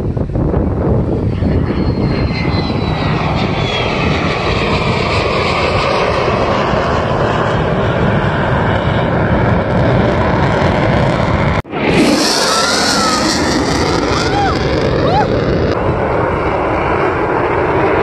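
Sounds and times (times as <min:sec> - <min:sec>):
jet fighter flying past: 0:01.1 - 0:18.0.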